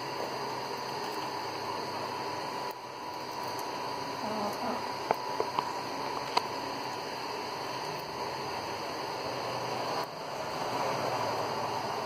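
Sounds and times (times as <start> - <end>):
faint hum: 0.0 - 12.0
steady hiss: 0.0 - 12.0.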